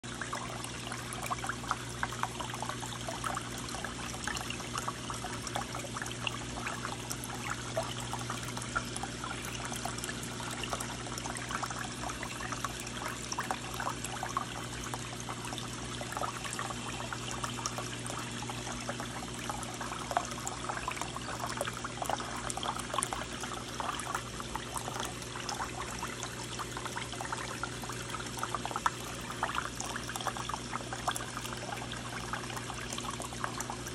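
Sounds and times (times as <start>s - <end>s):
low pump hum: 0.0s - 33.9s.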